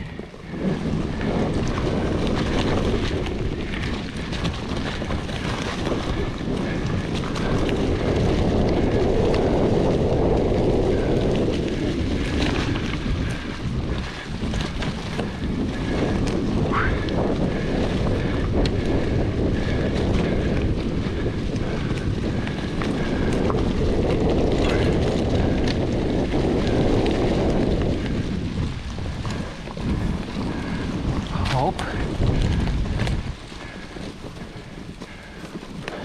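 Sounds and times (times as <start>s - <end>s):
mountain bike rumble and rattle: 0.0s - 36.0s
small clicks and knocks from bike: 0.0s - 36.0s
wind buffeting microphone: 0.0s - 36.0s.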